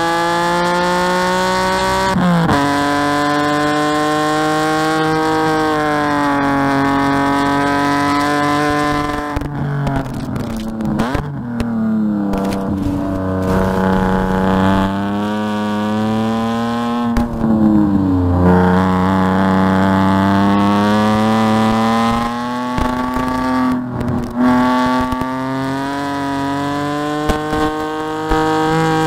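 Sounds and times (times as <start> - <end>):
race car engine at high revs: 0.0 - 29.0.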